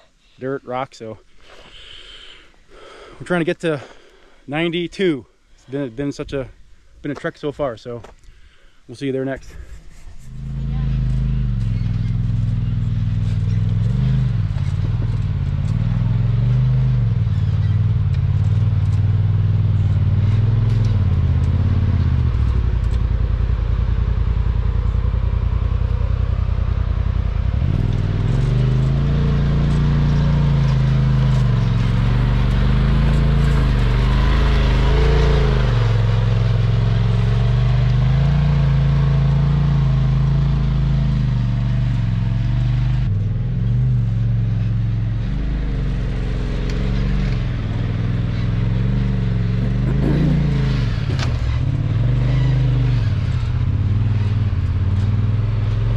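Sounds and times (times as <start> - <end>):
off-road vehicle engine revving: 9.5 - 55.9.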